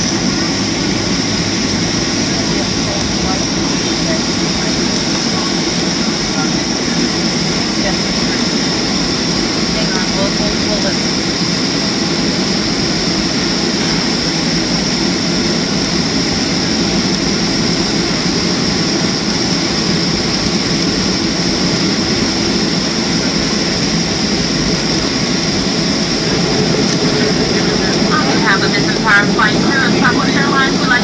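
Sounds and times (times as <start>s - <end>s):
airplane cabin engine roar: 0.0s - 31.0s.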